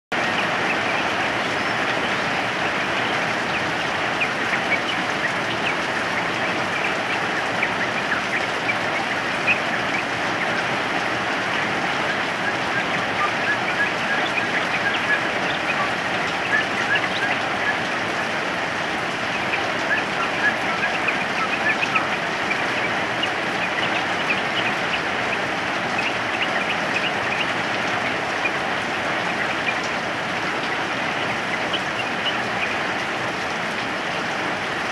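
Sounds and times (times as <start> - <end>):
birds chirping: 0.1 - 34.9
steady rain falling: 0.1 - 34.9.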